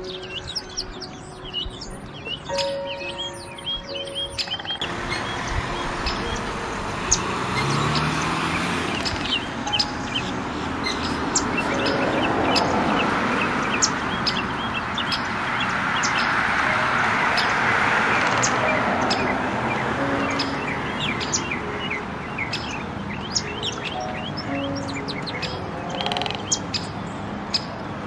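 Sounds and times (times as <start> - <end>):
small birds chirping: 0.0 - 27.8.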